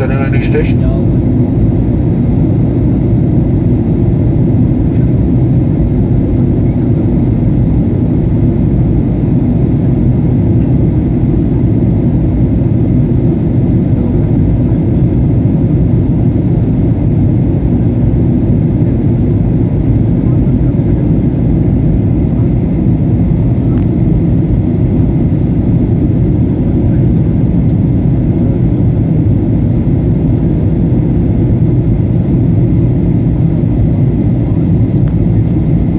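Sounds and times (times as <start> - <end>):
jet engine and airflow roar: 0.0 - 35.9.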